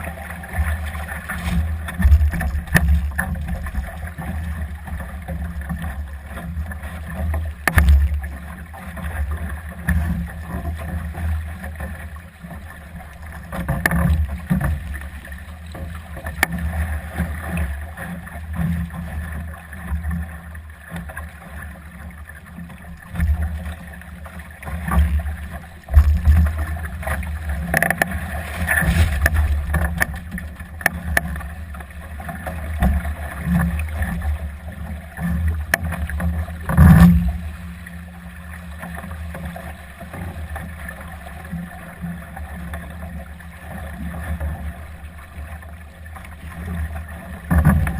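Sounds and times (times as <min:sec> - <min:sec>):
water rushing along hull: 0:00.0 - 0:47.9.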